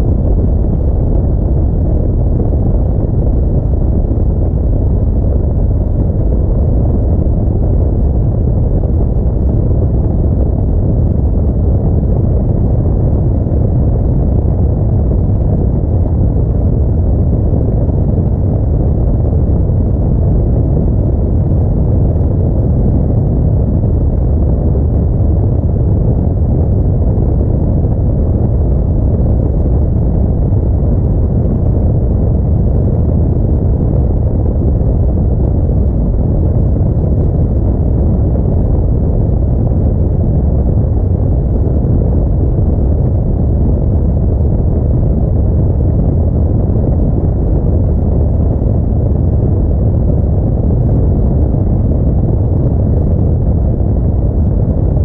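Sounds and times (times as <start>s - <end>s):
car driving low rumble: 0.0s - 55.0s.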